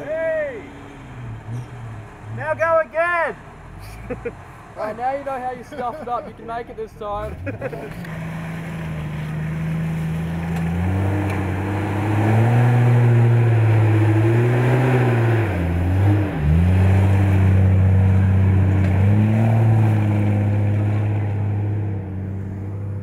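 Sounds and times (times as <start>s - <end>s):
engine revving through mud: 0.0s - 2.6s, 7.2s - 23.0s.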